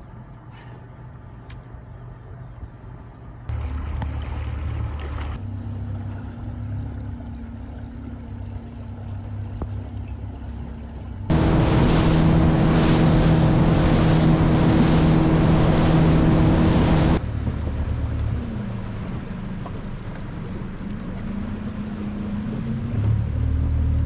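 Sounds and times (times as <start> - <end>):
motorboat engine: 0.0 - 24.0
wind and water rushing: 1.0 - 24.0.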